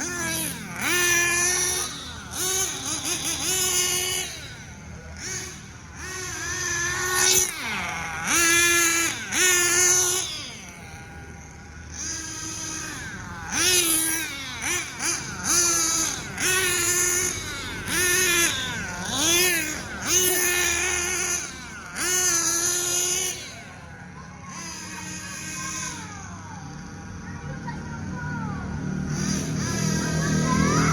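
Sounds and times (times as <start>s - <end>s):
nitro engine revving whine: 0.0s - 30.9s.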